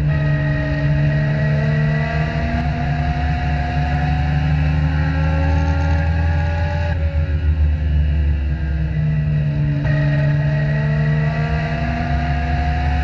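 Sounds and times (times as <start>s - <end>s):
race car engine accelerating: 0.0s - 13.0s.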